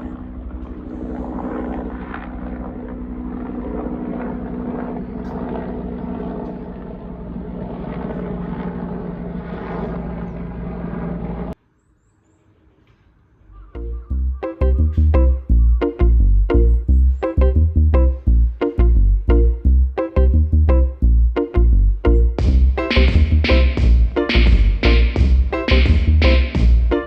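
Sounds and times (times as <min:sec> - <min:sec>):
engine drone: 0:00.0 - 0:11.6, 0:13.5 - 0:27.0.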